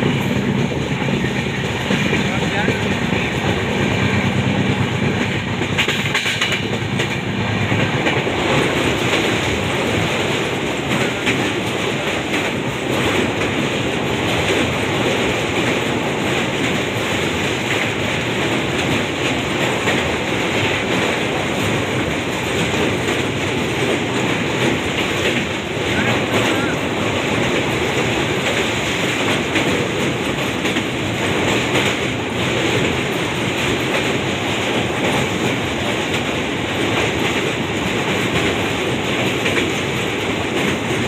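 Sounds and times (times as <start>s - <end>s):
train wheels rumbling and clattering: 0.0s - 41.0s.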